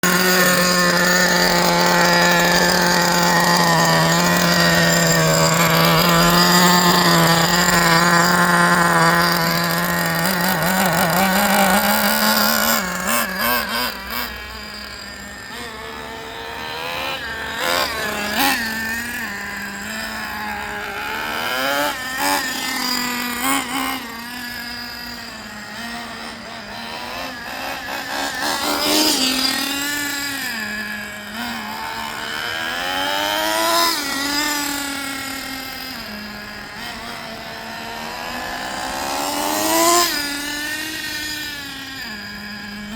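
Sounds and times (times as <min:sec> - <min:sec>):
rc truck nitro engine running: 0:00.0 - 0:42.9.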